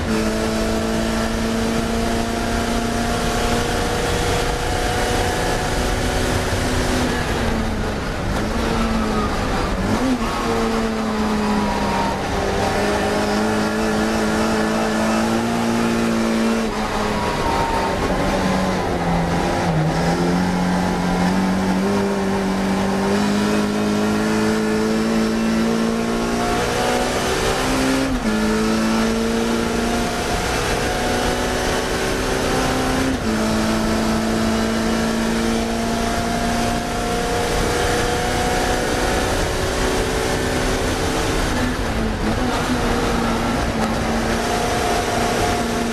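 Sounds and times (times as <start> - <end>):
car engine revving through gears: 0.0 - 45.9.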